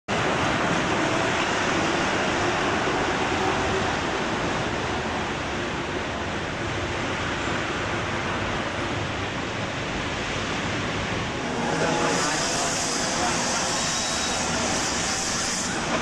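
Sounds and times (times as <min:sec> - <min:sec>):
rain: 0:00.1 - 0:16.0
tyres on wet road: 0:00.1 - 0:16.0.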